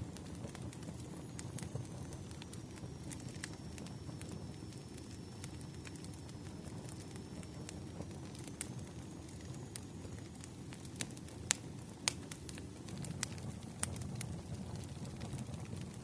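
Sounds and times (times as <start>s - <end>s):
campfire flames rushing: 0.0s - 16.0s
wood crackling and popping: 0.0s - 16.0s.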